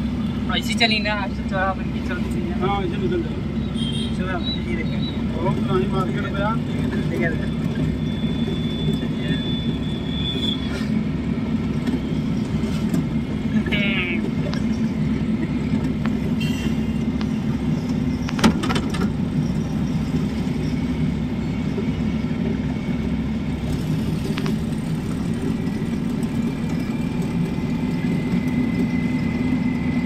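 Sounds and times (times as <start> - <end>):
car engine and tyre noise: 0.0 - 30.0.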